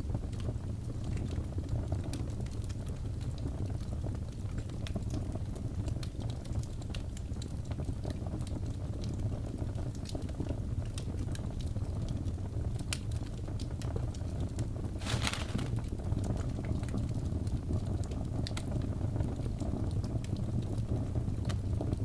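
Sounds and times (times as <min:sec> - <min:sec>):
low fire rumble: 0:00.0 - 0:22.0
fire crackling and popping: 0:00.1 - 0:22.0.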